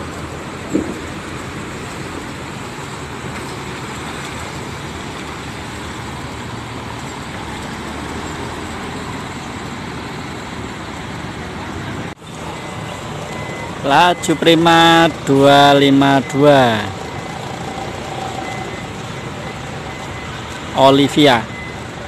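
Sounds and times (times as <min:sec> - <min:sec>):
bus engine rumbling: 0:00.0 - 0:22.0.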